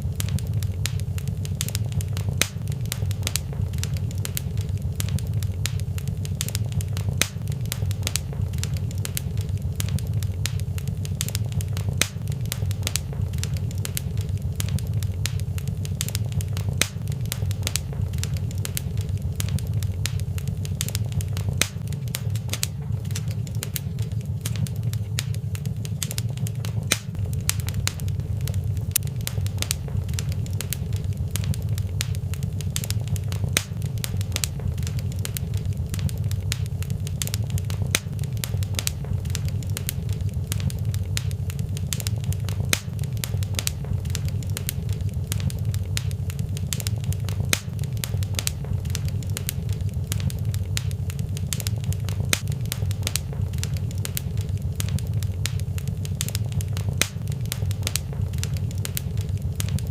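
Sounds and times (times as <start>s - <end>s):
low fire rumble: 0.0s - 59.9s
sharp pops and snaps: 0.0s - 59.9s
wood fire crackling: 0.0s - 59.9s.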